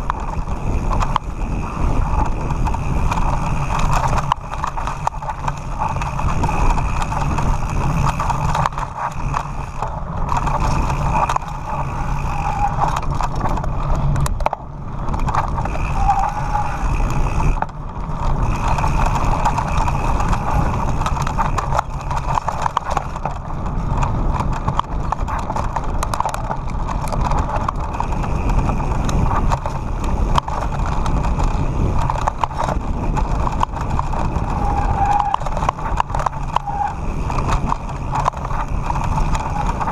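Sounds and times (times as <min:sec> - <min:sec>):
bike rattling and knocking: 0:00.0 - 0:39.9
bike tyres on gravel: 0:00.0 - 0:39.9
wind buffeting microphone: 0:00.0 - 0:39.9.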